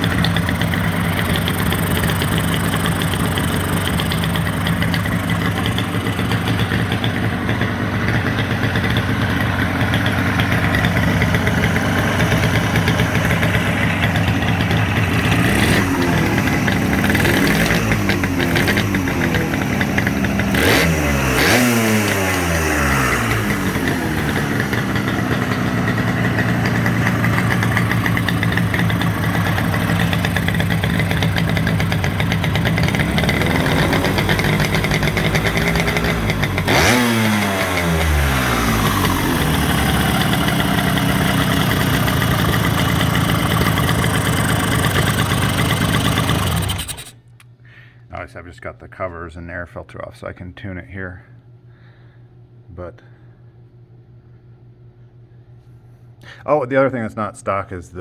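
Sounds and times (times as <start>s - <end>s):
motorcycle engine idling: 0.0s - 47.3s
engine throttle blips: 0.0s - 47.5s.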